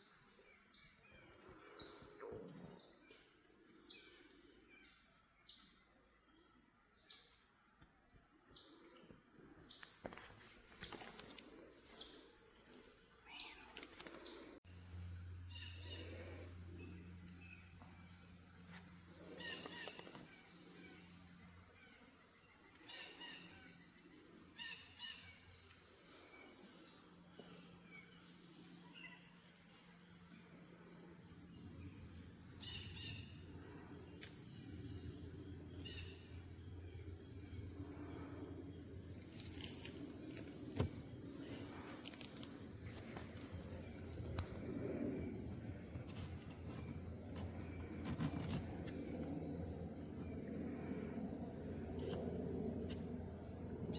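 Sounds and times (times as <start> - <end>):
high insect drone: 0.0 - 53.9.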